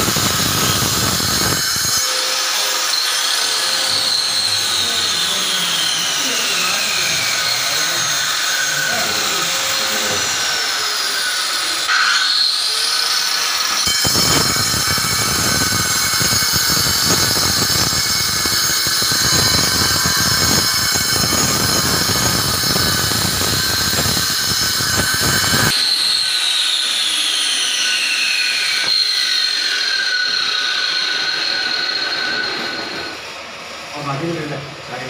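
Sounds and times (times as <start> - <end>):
grinder grinding stone: 0.0 - 33.2
electric grinder whining: 0.0 - 34.5.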